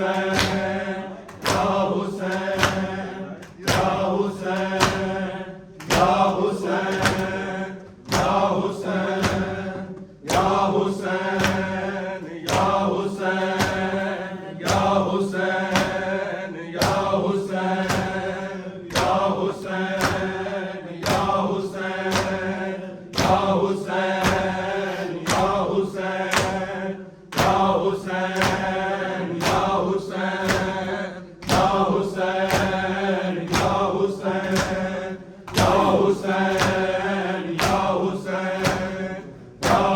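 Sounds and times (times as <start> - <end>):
mourners chanting in unison: 0.0 - 39.9
rhythmic chest-beating slaps: 0.0 - 39.9.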